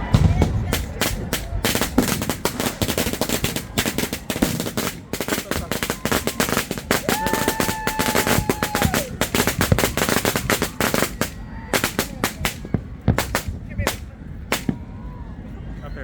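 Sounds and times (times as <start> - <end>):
firecrackers exploding: 0.0 - 15.0.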